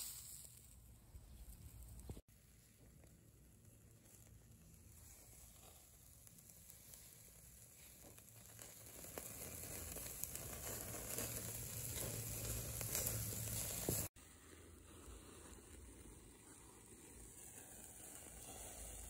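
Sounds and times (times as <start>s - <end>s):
meat sizzling on a grill: 0.0s - 2.2s, 3.6s - 14.2s, 14.9s - 19.0s.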